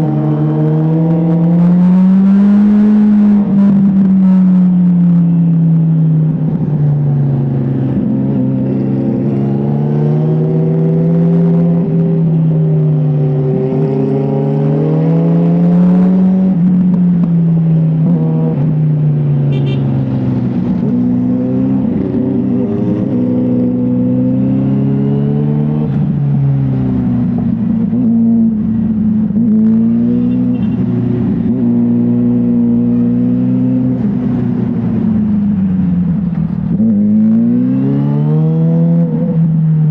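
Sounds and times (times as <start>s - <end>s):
motorcycle engine revving: 0.0s - 5.4s, 7.0s - 39.9s.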